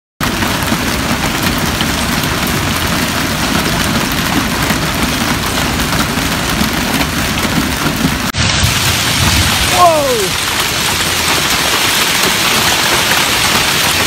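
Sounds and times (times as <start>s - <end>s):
hail and heavy rain clattering: 0.2s - 14.0s.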